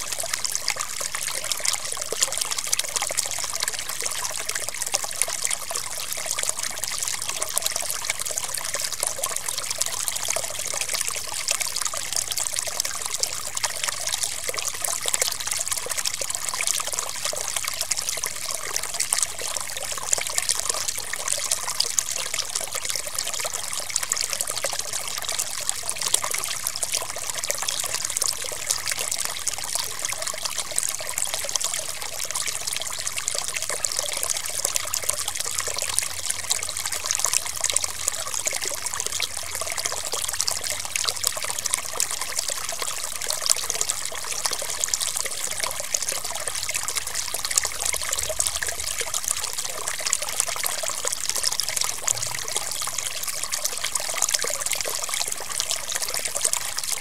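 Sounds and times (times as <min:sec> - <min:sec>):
small stream trickling: 0:00.0 - 0:57.0.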